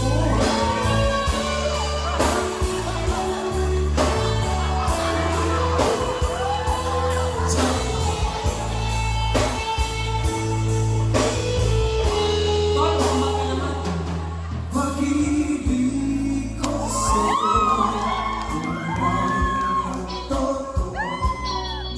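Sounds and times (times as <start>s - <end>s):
heavy bass beat: 0.0s - 18.1s
person singing: 0.0s - 21.9s.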